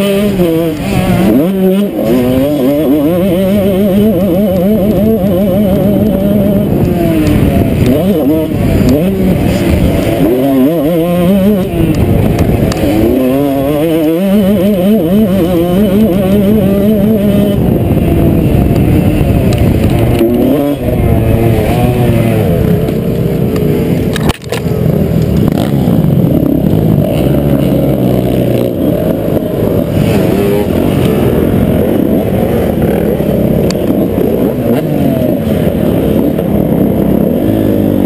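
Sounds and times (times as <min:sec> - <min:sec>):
motocross bike engine revving: 0:00.0 - 0:38.0
several motocross bikes revving: 0:00.0 - 0:38.0.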